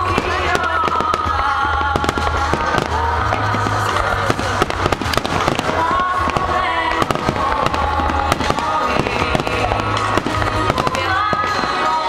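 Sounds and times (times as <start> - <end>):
fireworks bangs and crackles: 0.0 - 12.0
music with held notes: 0.0 - 12.0.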